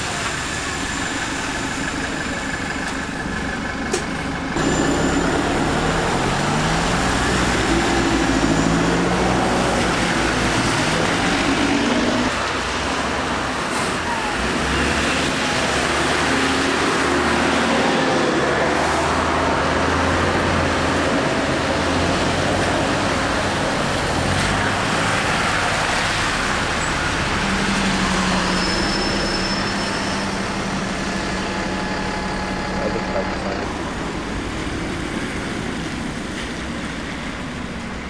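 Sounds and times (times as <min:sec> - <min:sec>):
tyres hissing on wet road: 0:00.0 - 0:02.8, 0:04.6 - 0:38.0
buses idling and pulling away: 0:00.0 - 0:38.0
passing traffic: 0:00.0 - 0:38.0.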